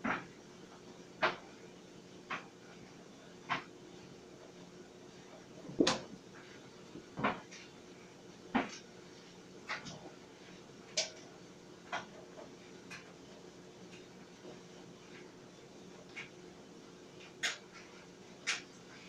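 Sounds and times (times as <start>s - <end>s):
clothes dryer humming: 0.0s - 19.0s.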